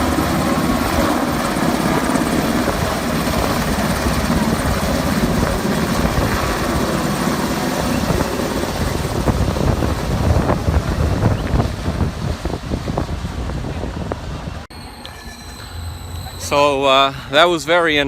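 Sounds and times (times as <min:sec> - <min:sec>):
wind buffeting on microphone: 0:00.0 - 0:14.7
helicopter rotor noise: 0:00.0 - 0:18.0.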